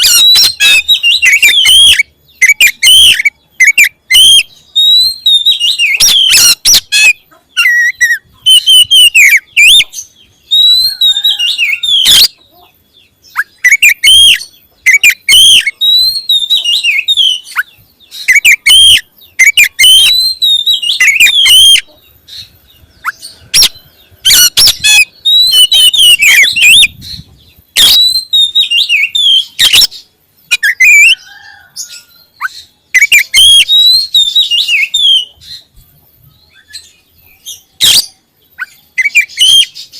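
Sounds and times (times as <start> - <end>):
songbird singing whistled phrases: 0.0 - 12.4, 13.0 - 39.9.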